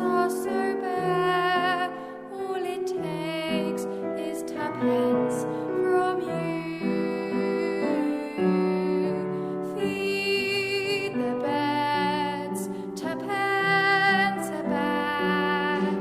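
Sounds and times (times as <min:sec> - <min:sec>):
gentle lullaby piano music: 0:00.0 - 0:16.0.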